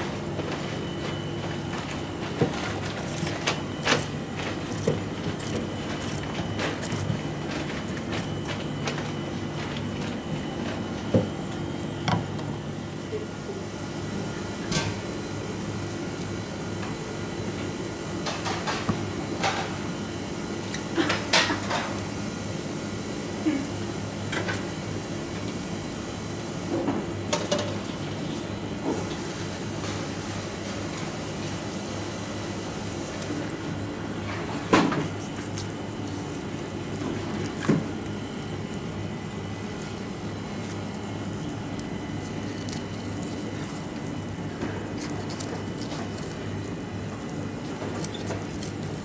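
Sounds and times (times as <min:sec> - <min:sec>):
kitchen machinery humming: 0:00.0 - 0:49.0.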